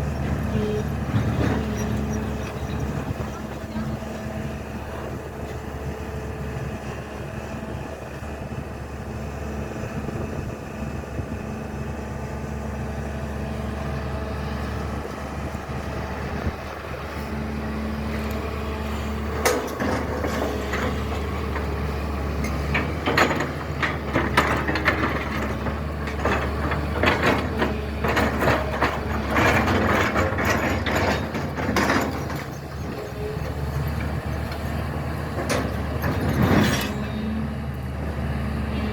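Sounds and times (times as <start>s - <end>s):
excavator clanking and scraping: 0.0s - 38.9s
excavator diesel engine running: 0.0s - 38.9s.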